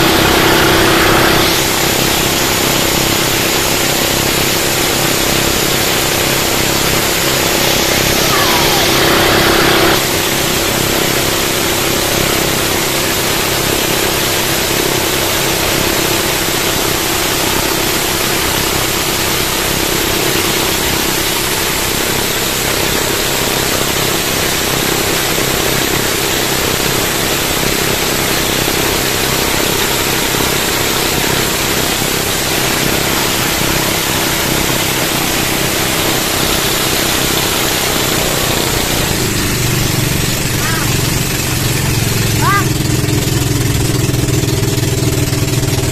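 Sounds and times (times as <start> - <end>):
boat engines running: 0.0 - 45.9
water rushing along hull: 0.0 - 45.9.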